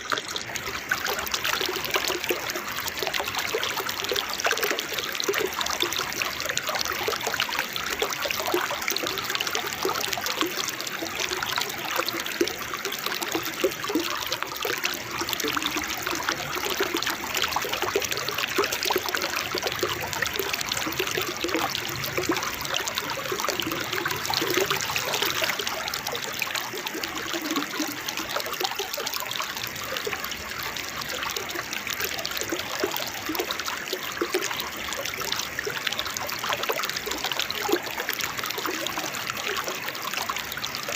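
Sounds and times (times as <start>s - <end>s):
waterfall and stream babbling: 0.0s - 40.9s.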